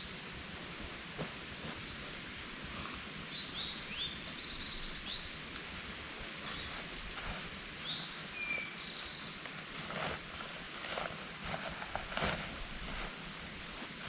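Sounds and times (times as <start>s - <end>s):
steady outdoor hiss: 0.0s - 14.0s
birds singing: 1.2s - 5.6s, 6.2s - 14.0s.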